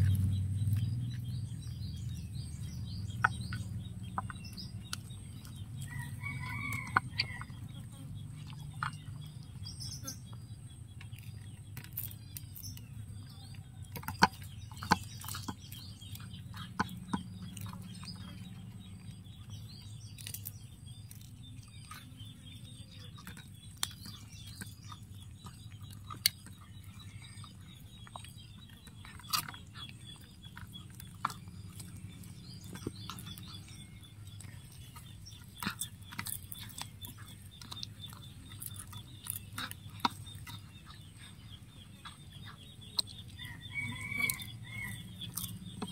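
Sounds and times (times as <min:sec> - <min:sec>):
birds chirping: 0:00.0 - 0:45.9
cat chewing crunchy food: 0:00.0 - 0:45.9.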